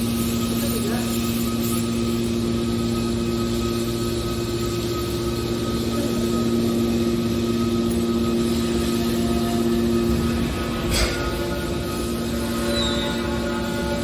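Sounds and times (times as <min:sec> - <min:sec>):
hydraulic motor and pump humming: 0:00.0 - 0:14.0.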